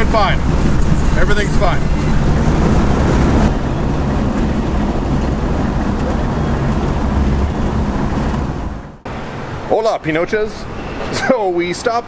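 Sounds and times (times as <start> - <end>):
car engine drone: 0.0 - 9.7
road and wind noise: 0.0 - 12.0.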